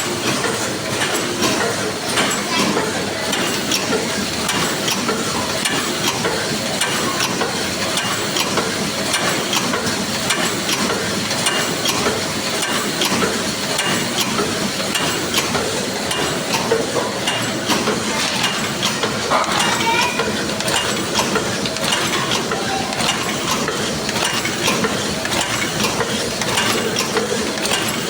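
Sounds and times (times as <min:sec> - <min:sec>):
machine clattering: 0:00.0 - 0:28.0
steady mechanical noise: 0:00.0 - 0:28.0.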